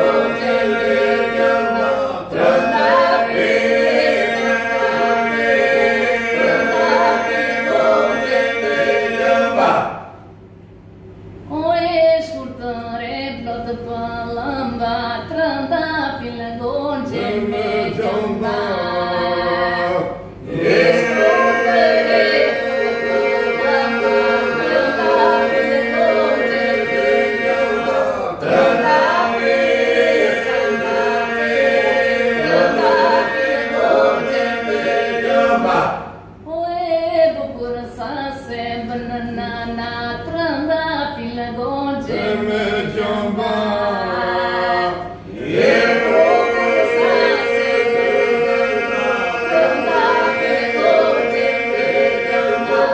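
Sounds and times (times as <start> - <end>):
group singing held drone: 0.0 - 10.3, 16.6 - 36.5, 37.4 - 52.9.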